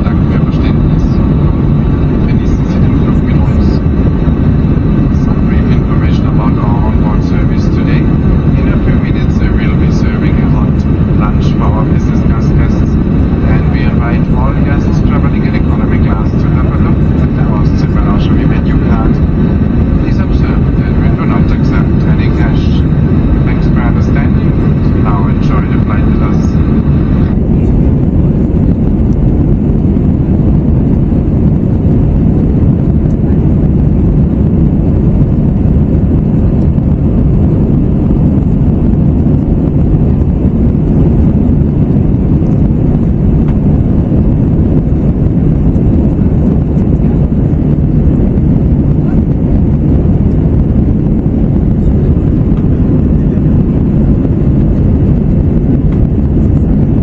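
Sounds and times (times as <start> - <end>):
jet airliner cabin roar: 0.0 - 57.0.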